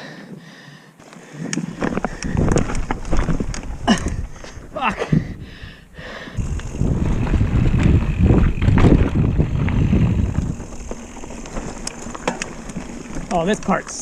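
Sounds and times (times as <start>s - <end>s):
bike rattling: 1.0s - 5.4s, 6.4s - 14.0s
mountain bike rumbling on trail: 1.1s - 5.6s, 6.4s - 14.0s
wind buffeting microphone: 1.4s - 5.8s, 6.4s - 13.3s.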